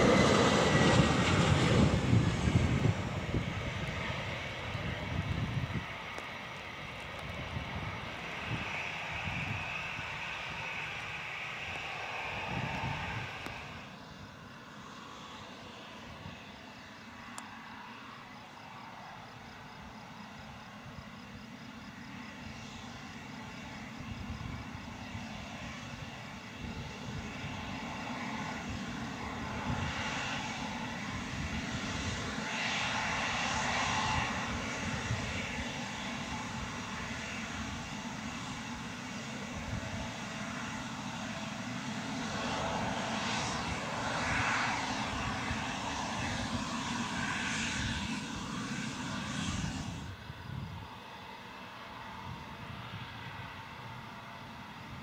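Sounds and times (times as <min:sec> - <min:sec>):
jet engines rumble and whine: 0:00.0 - 0:55.0.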